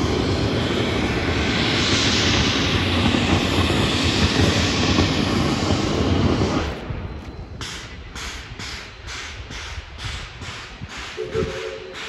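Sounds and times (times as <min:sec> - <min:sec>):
steam locomotive venting steam: 0:00.0 - 0:12.0.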